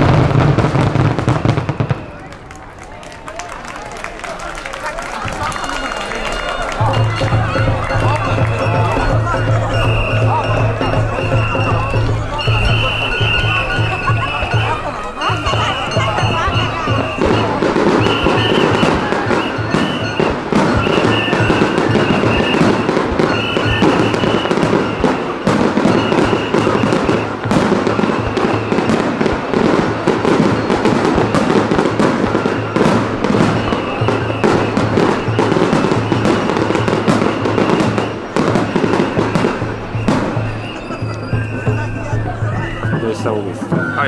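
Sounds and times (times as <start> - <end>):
fireworks crackling and popping: 0.0 - 44.0
music playing: 5.6 - 44.0.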